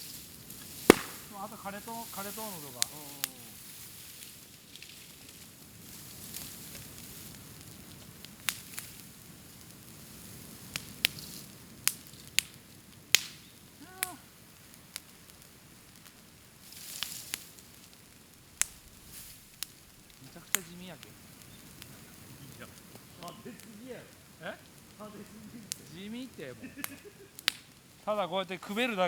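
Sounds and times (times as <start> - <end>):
burning bamboo crackling and popping: 0.0 - 29.0.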